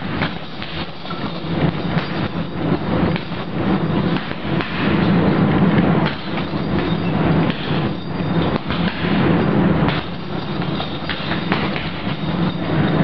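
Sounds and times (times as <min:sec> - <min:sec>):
gloves striking punching bag: 0:00.0 - 0:02.4, 0:03.0 - 0:05.1, 0:06.0 - 0:12.3.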